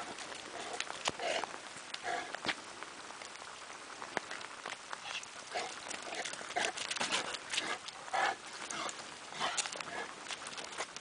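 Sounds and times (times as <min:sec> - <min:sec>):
dog paws on wet asphalt: 0:00.0 - 0:11.0
footsteps on wet asphalt: 0:00.0 - 0:11.0.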